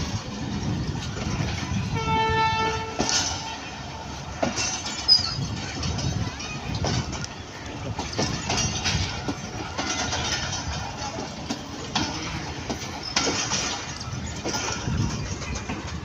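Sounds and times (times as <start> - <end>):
train running gear rumble: 0.0 - 16.0
wheels clattering over rail joints: 0.0 - 16.0.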